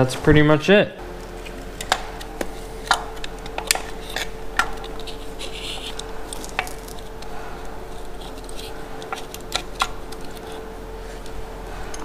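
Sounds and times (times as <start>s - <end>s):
metal scraping: 1.2s - 12.0s.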